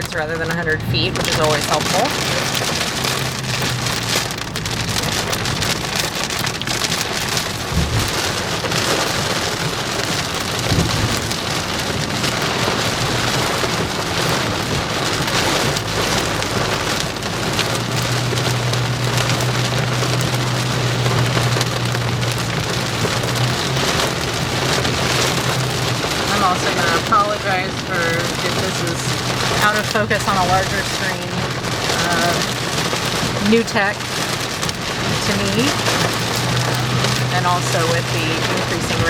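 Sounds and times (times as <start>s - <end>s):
engine and road drone: 0.0s - 39.0s
heavy rain on vehicle roof: 0.0s - 39.0s
low thumps: 0.0s - 39.0s.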